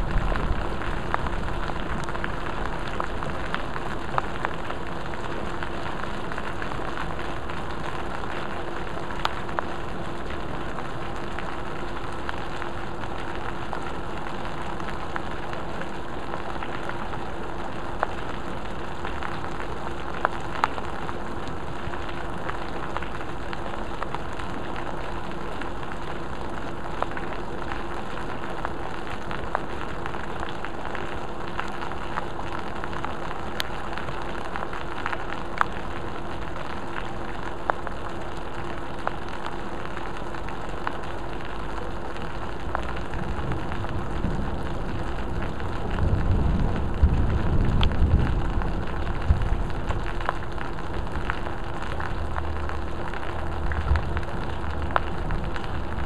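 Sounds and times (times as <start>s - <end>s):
faint low hum: 0.0s - 56.0s
rain falling on water and paving: 0.0s - 56.0s
raindrops tapping: 0.0s - 56.0s.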